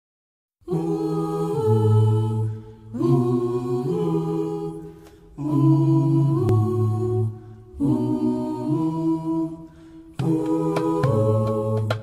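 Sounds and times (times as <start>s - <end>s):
voices singing held chords: 0.6s - 12.0s.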